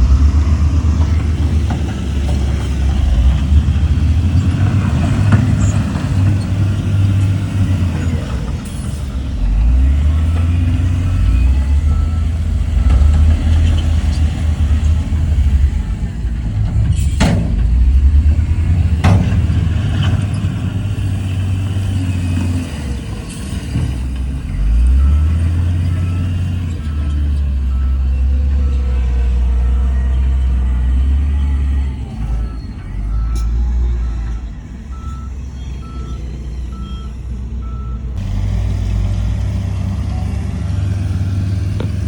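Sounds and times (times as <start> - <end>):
heavy diesel engine rumbling: 0.0 - 42.0.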